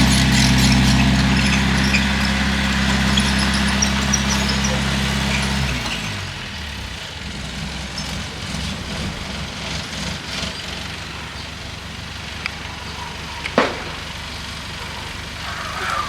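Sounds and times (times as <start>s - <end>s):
bulldozer engine idling: 0.0s - 16.0s.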